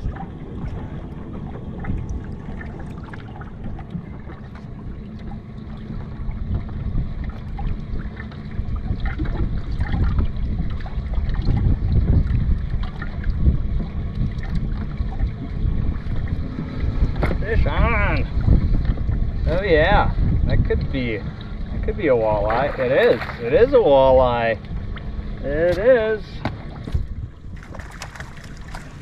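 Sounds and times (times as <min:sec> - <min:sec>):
water lapping against boat hull: 0:00.0 - 0:29.0
wind rumbling on microphone: 0:00.0 - 0:29.0.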